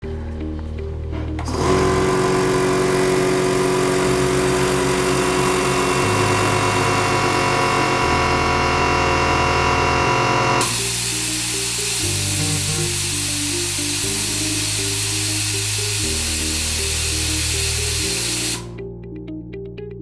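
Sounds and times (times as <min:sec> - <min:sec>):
music bass line: 0:00.0 - 0:20.0
air compressor running: 0:01.4 - 0:18.8.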